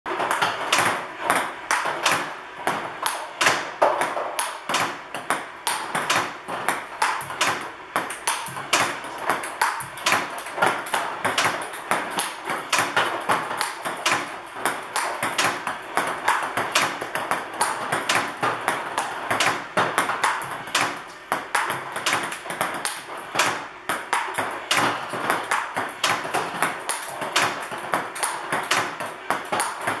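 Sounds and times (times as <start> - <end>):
table tennis balls clicking: 0.1 - 30.0.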